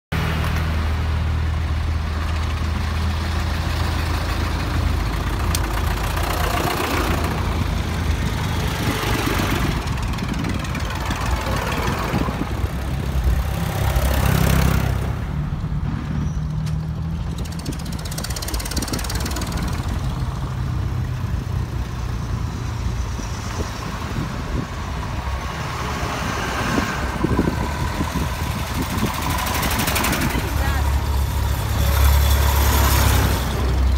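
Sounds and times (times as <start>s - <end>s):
tractors driving slowly past: 0.1s - 33.9s.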